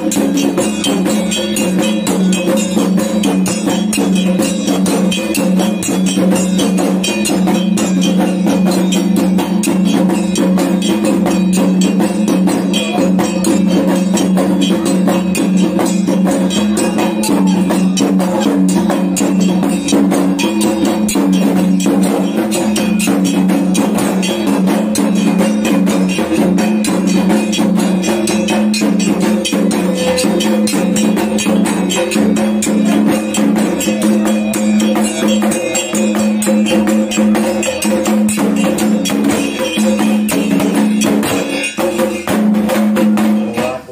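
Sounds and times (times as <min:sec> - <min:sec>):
drums beaten in fast rhythm: 0:00.0 - 0:43.9.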